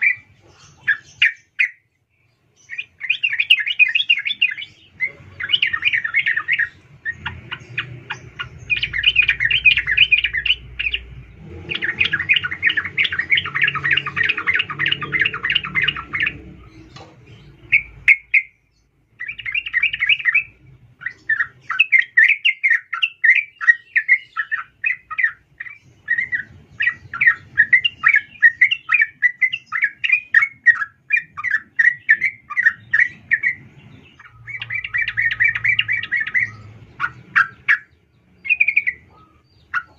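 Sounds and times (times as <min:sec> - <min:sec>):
bird rapid chattering calls: 0:00.0 - 0:01.9, 0:02.6 - 0:39.9.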